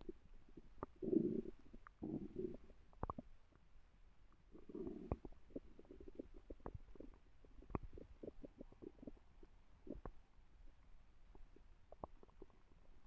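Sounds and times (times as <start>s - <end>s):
stomach growling: 0.0s - 3.3s, 4.5s - 10.2s, 11.3s - 13.0s.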